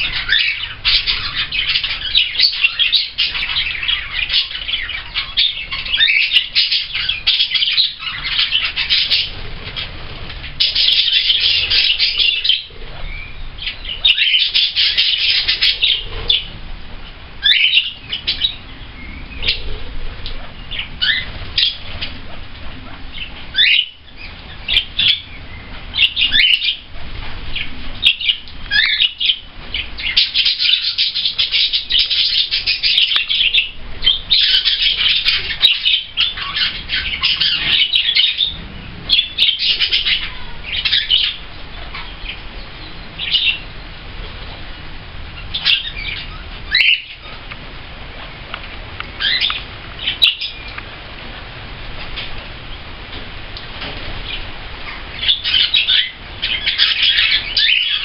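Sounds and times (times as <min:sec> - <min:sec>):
budgerigars chattering and warbling: 0:00.0 - 0:47.6, 0:48.2 - 0:58.0.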